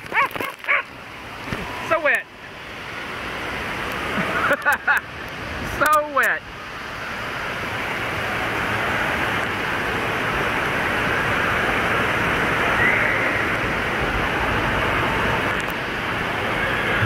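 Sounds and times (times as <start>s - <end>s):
water spraying and splashing: 0.0s - 17.0s.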